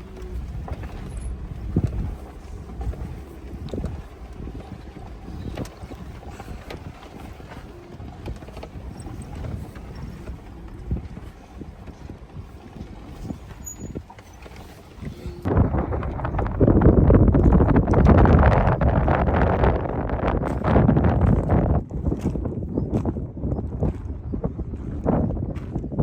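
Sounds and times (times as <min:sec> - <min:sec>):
vehicle rumbling on bumpy track: 0:00.0 - 0:26.0.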